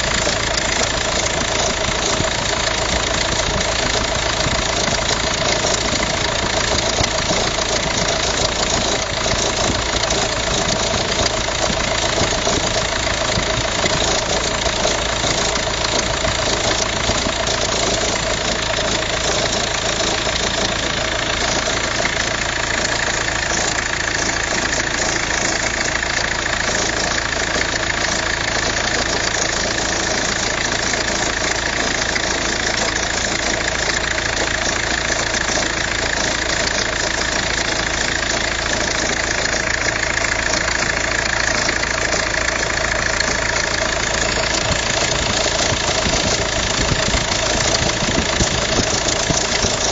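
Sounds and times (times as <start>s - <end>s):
car engine idling: 0.0s - 49.9s
engine belt noise: 0.0s - 49.9s.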